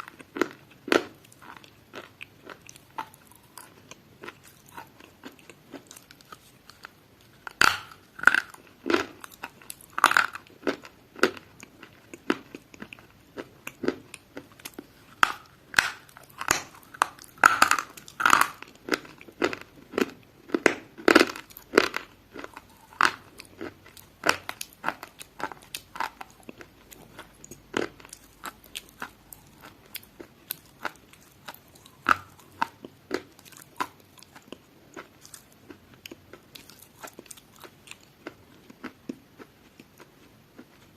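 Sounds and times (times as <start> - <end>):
crunchy food being chewed: 0.0 - 40.9.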